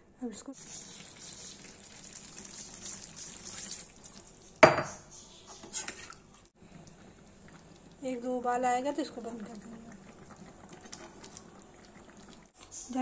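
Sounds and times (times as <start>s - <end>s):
curry sizzling in a pan: 0.6s - 13.0s.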